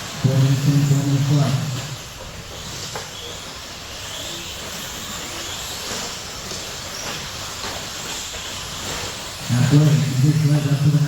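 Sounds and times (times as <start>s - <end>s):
high electric motor whines: 0.0s - 11.0s
rc trucks running on dirt: 0.0s - 11.0s.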